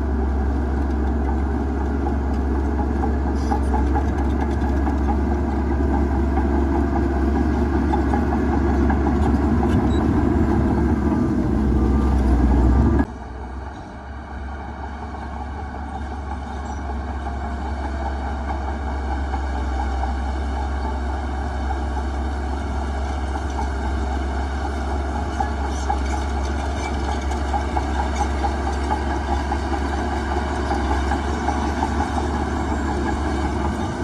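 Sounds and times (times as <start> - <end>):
heavy diesel engine humming: 0.0 - 34.0.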